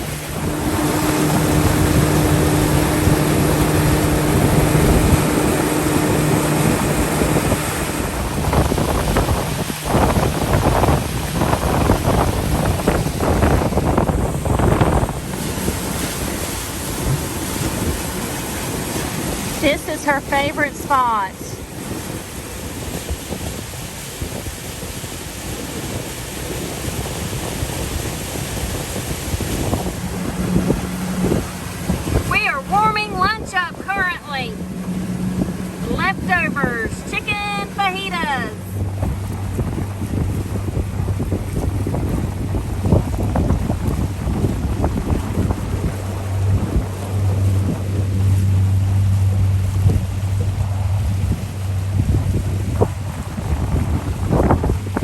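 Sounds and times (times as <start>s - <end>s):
boat motor humming: 0.0s - 55.0s
water noise: 0.0s - 55.0s
wind buffeting microphone: 0.0s - 55.0s.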